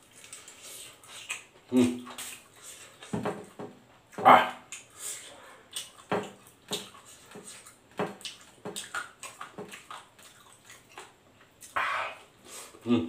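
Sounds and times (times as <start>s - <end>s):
wet chewing and lip smacks: 0.0s - 12.3s.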